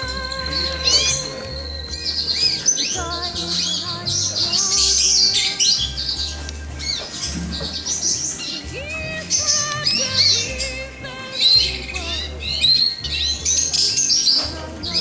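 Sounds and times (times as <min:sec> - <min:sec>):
background music with bass: 0:00.0 - 0:15.0
small birds twittering: 0:00.0 - 0:15.0.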